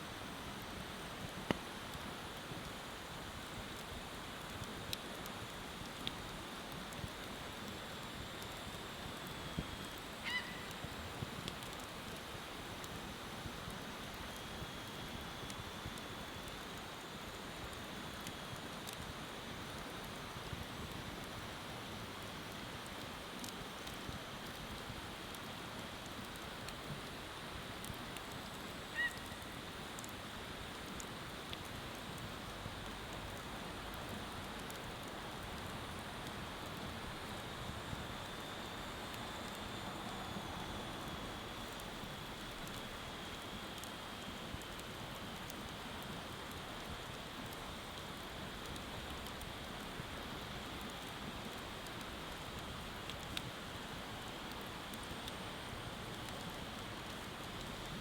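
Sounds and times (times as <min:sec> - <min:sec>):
bonfire crackling and popping: 0:00.1 - 0:58.0.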